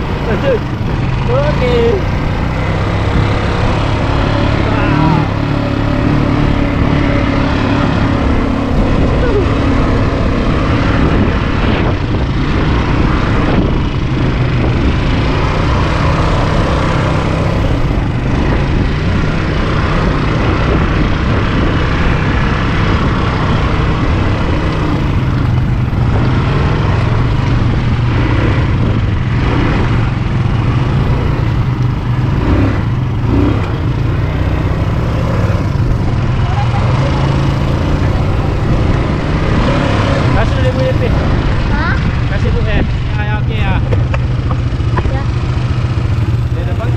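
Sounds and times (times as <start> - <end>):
atv engine droning: 0.0 - 46.9.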